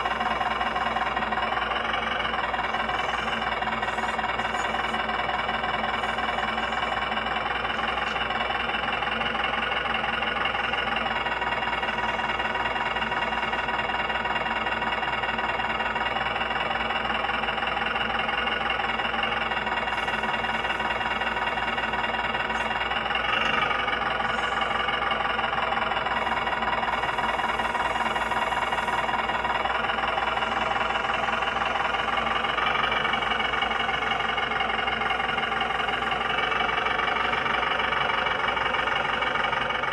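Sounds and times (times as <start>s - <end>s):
model vehicle engines running: 0.0s - 39.9s.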